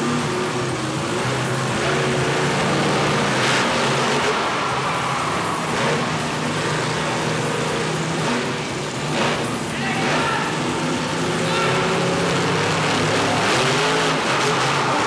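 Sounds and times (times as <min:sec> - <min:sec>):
monster truck engine running: 0:00.0 - 0:15.0.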